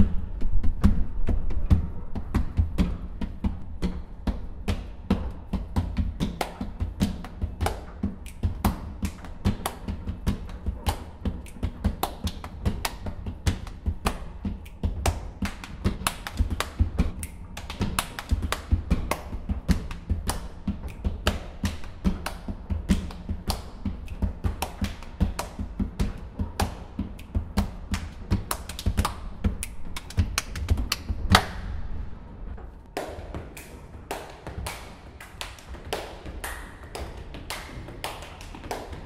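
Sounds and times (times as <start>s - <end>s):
sharp hand claps and body slaps: 0.0s - 32.0s, 32.8s - 39.0s.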